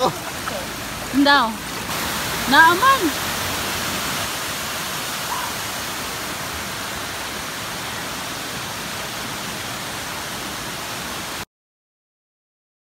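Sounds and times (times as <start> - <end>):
water flowing over cascade: 0.0 - 11.5.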